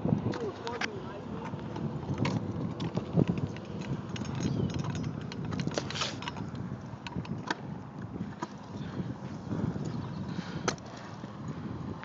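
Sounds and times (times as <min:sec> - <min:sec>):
scooter wheels rolling on concrete: 0:00.0 - 0:12.0.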